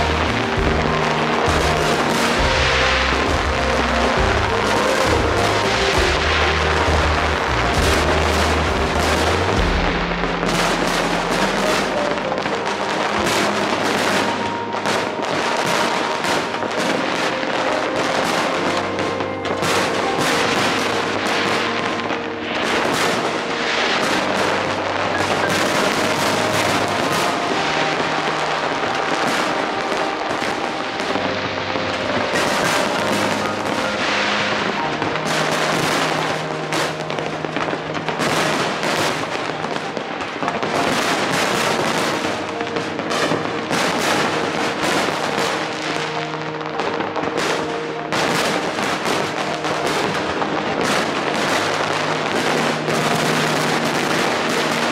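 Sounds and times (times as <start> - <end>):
fireworks bursting and crackling: 0.0 - 54.9
music playing: 0.0 - 54.9.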